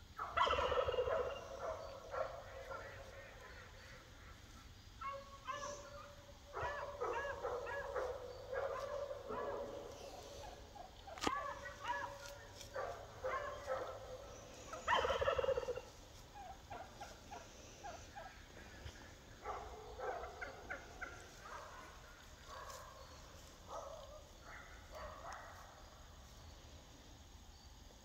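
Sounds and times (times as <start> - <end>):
animal calls: 0.0 - 26.4.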